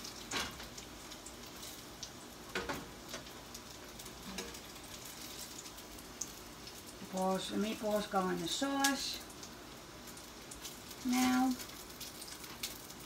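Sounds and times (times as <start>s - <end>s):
meatballs sizzling in a pan: 0.0s - 13.0s.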